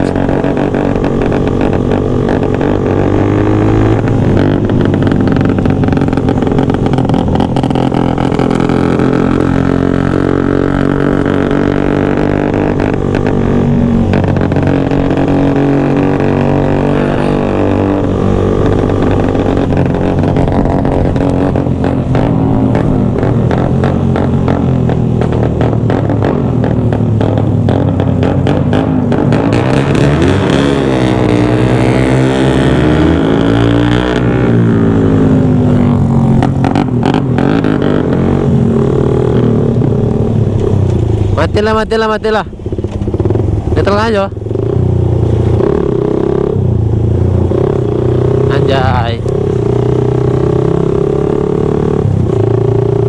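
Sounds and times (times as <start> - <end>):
motorcycle engines running: 0.0 - 53.0.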